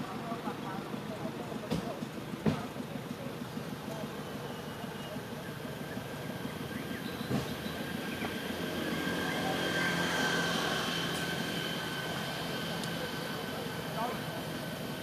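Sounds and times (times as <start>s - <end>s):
distant vehicle hum and whine: 0.0s - 15.0s.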